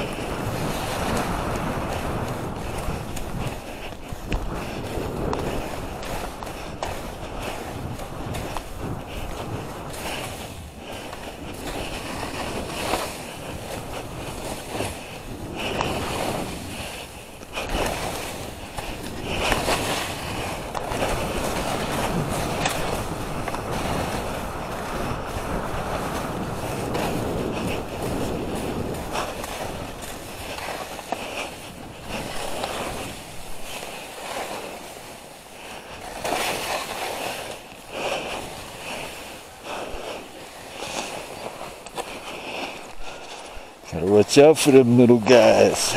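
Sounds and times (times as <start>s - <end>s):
skis rushing through powder snow: 0.0s - 45.9s
wind on microphone: 0.0s - 45.9s.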